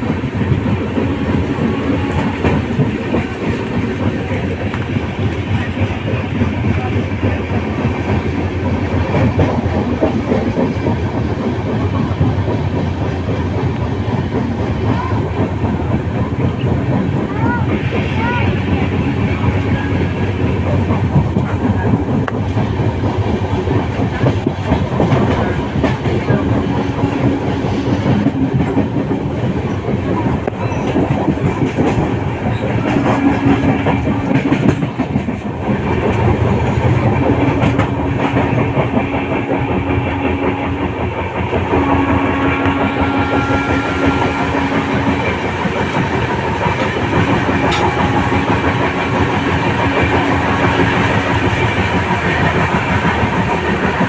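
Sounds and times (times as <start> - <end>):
train rumble: 0.0 - 54.0
wheels clacking over rails: 0.0 - 54.0.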